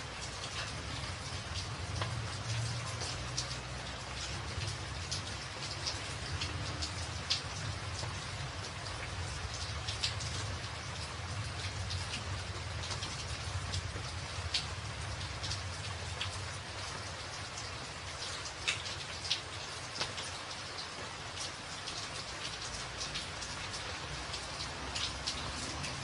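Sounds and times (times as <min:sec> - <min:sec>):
rain on a tin roof: 0:00.0 - 0:26.0.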